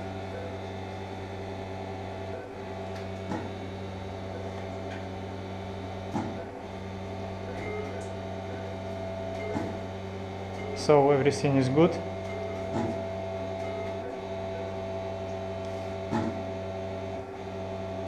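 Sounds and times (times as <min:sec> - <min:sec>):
electrical equipment hum: 0:00.0 - 0:18.0.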